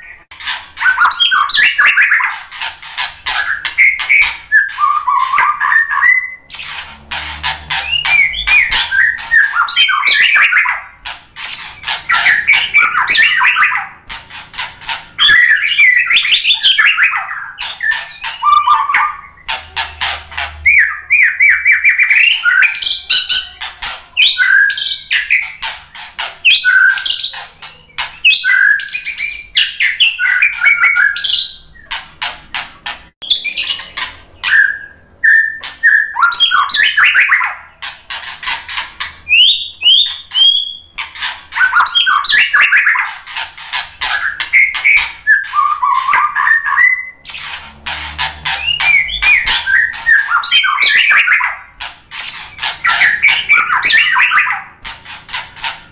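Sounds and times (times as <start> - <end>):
bird singing whistles and chatter: 0.0 - 2.6, 3.3 - 25.7, 26.4 - 32.0, 33.2 - 38.2, 39.2 - 43.2, 44.0 - 54.8.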